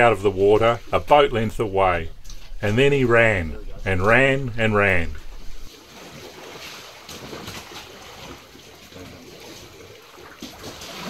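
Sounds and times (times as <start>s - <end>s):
open sea washing: 0.0s - 11.0s.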